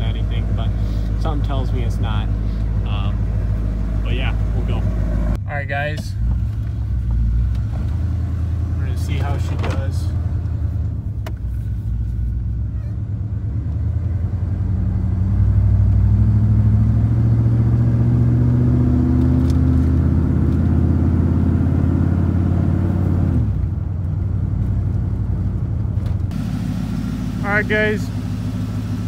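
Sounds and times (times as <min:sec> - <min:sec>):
truck engine accelerating: 0:00.0 - 0:05.4, 0:06.0 - 0:29.0.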